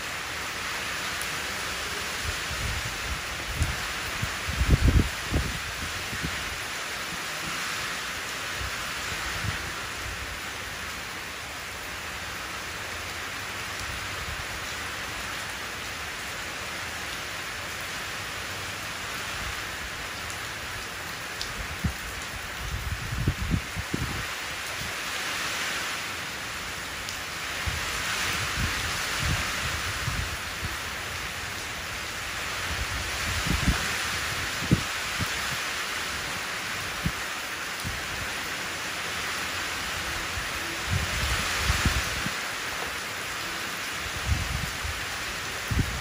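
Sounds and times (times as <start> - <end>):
rain splashing into puddle: 0.0 - 46.0.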